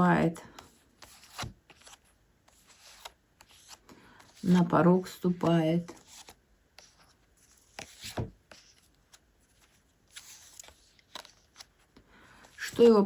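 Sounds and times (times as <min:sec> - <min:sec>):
cards rustling: 0:00.5 - 0:13.0.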